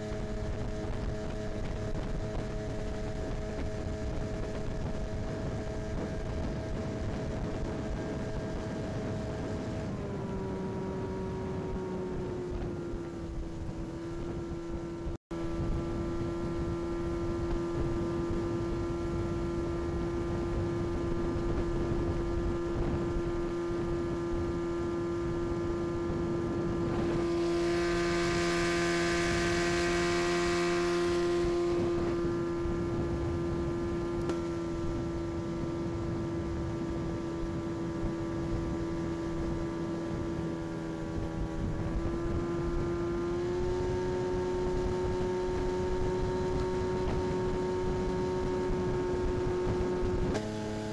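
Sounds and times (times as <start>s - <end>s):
outboard motor running: 0.0s - 50.9s
water rushing along hull: 0.0s - 50.9s.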